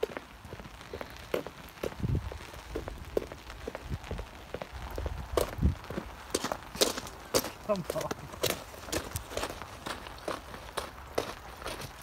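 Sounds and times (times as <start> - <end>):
footsteps on wet ground: 0.0 - 12.0
rain falling: 0.0 - 12.0.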